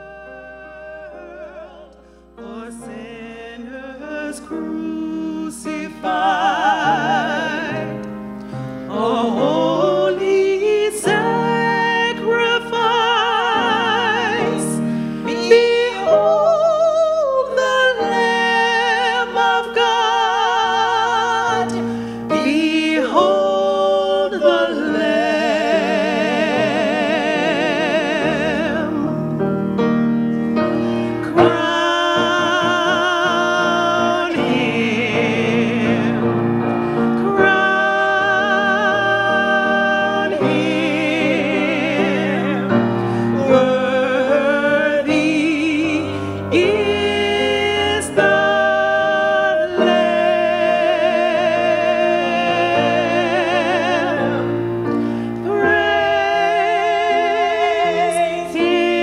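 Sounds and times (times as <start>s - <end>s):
woman singing with vibrato: 0.0s - 8.0s, 8.9s - 29.3s, 31.0s - 36.3s, 37.1s - 54.5s
grand piano accompaniment: 0.0s - 59.0s.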